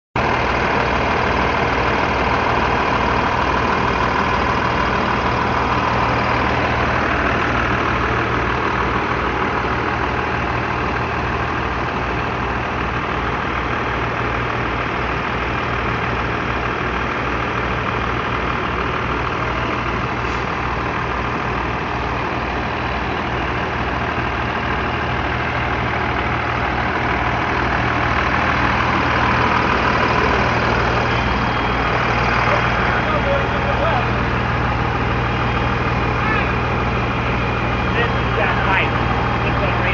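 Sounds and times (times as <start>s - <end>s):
fire engine motor droning: 0.2s - 39.9s.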